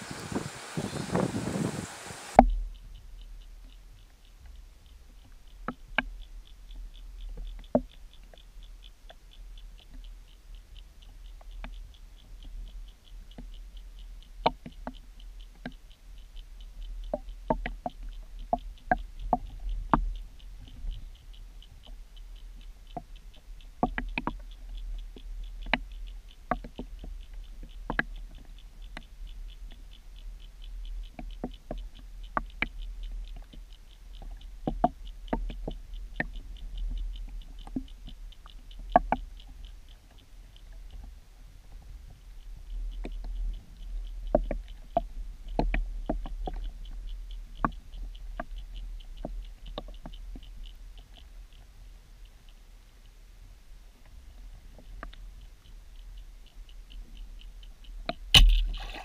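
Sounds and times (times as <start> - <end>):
fast faint ticking: 0.0 - 59.0
sharp clicks and knocks: 2.4 - 41.2, 42.7 - 51.6, 54.0 - 59.0.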